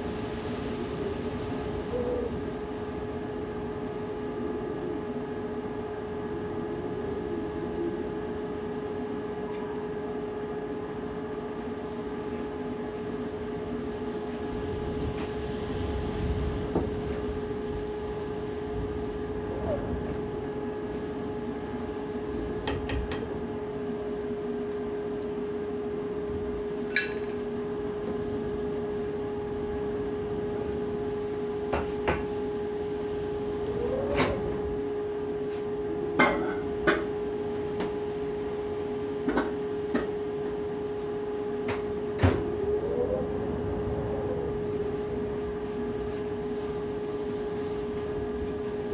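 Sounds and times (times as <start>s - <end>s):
appliance hum: 0.0s - 48.9s.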